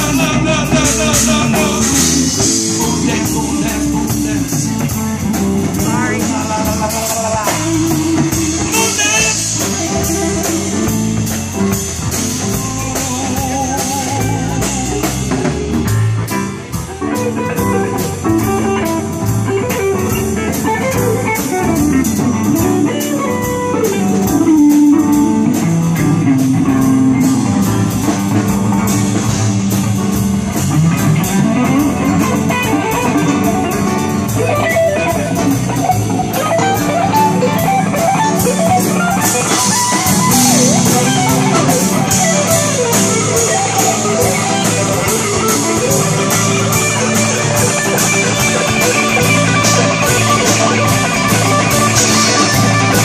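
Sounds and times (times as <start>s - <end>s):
drum kit beat: 0.0s - 53.0s
electric bass: 0.0s - 53.0s
electric guitar: 0.0s - 53.0s
keyboard: 0.0s - 53.0s.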